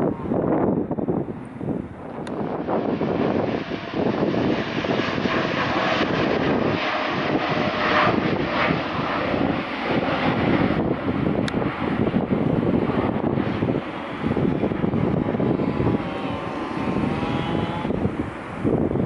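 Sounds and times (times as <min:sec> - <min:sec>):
jet engines at takeoff power: 0:00.0 - 0:19.0.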